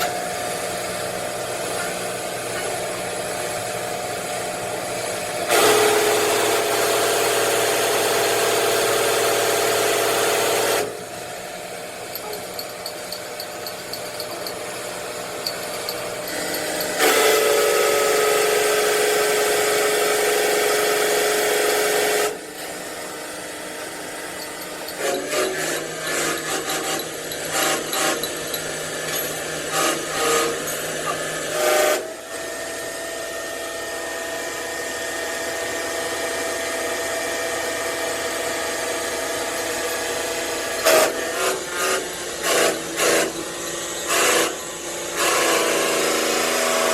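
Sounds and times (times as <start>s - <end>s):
power tool running: 0.0s - 46.9s.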